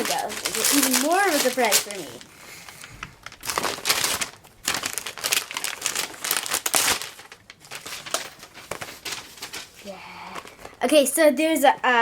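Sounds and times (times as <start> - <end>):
wrapping paper crinkling: 0.0 - 10.8.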